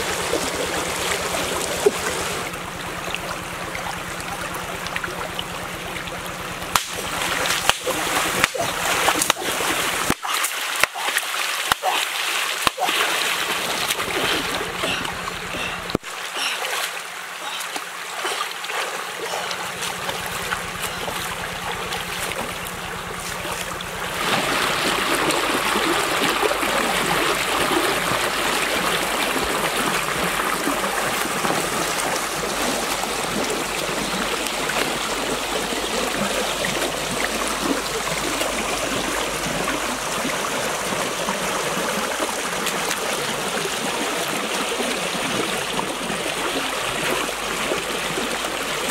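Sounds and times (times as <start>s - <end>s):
loud rush of water: 0.0s - 48.9s
stream running over rocks: 0.0s - 48.9s
splashing in water: 6.1s - 48.9s.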